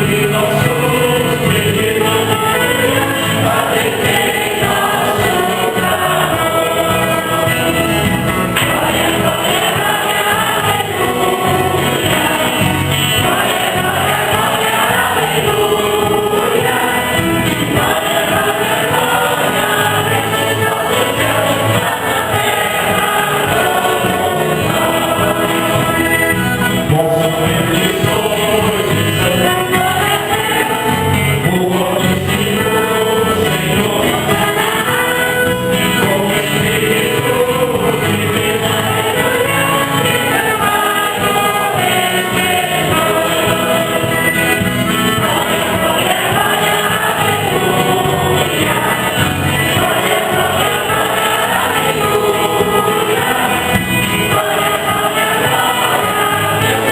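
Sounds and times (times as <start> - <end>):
choir singing a hymn: 0.0 - 56.9
instrumental accompaniment: 0.0 - 56.9.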